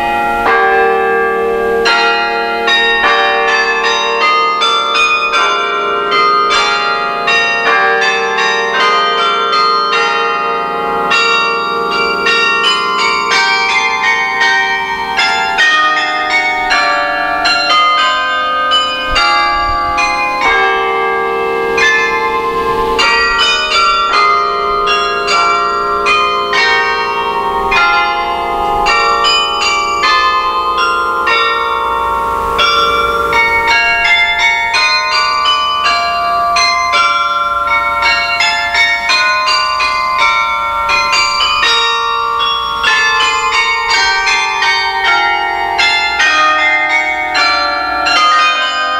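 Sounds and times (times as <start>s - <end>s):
carillon bells playing a carol: 0.0s - 48.9s.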